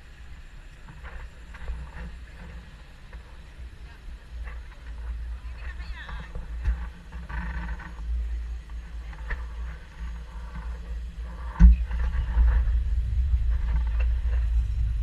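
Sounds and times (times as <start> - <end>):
boat engine rumble: 0.0 - 15.0
wind buffeting microphone: 0.8 - 15.0.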